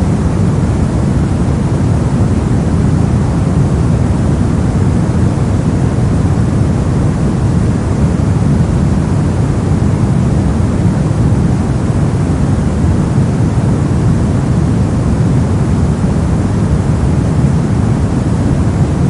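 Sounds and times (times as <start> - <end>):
brown noise rumbling hiss: 0.0 - 19.0.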